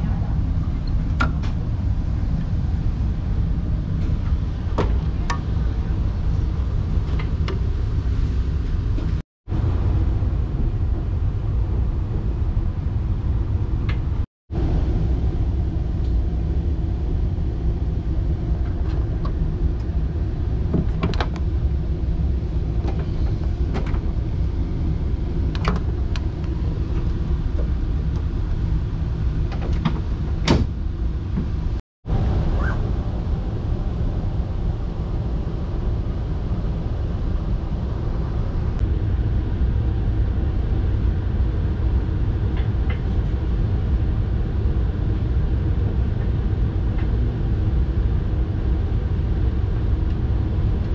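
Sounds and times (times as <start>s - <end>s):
train car low hum: 0.0s - 50.9s.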